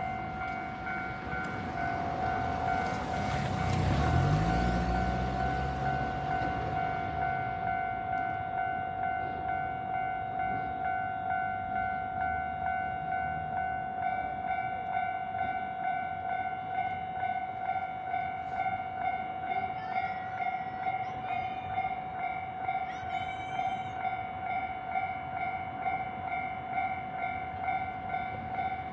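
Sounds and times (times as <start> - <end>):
higher crossing alarm: 0.0 - 28.9
level crossing alarm ringing: 0.0 - 28.9.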